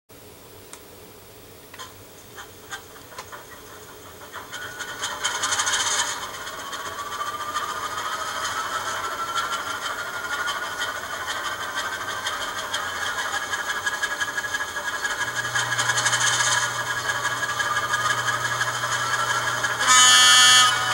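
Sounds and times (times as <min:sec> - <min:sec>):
low hum: 0:00.3 - 0:20.9
model train diesel engine sound: 0:01.6 - 0:20.9.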